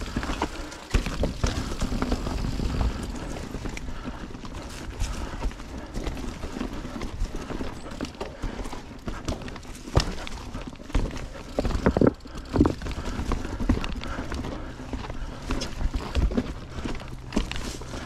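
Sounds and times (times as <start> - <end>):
mountain bike rattling on dirt: 0.0 - 18.0.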